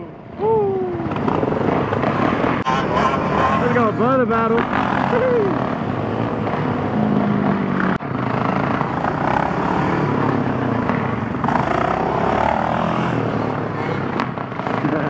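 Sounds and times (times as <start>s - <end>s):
quad engine revving: 0.9s - 15.0s.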